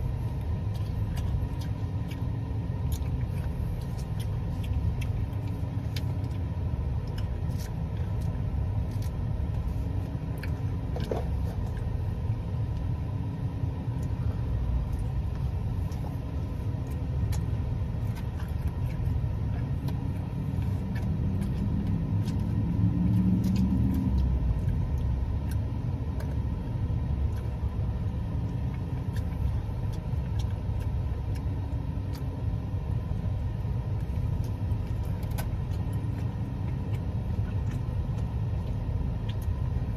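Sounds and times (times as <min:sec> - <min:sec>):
chewing and mouth clicks: 0:00.0 - 0:39.9
low hum: 0:00.0 - 0:39.9
steady low rumble: 0:00.0 - 0:39.9.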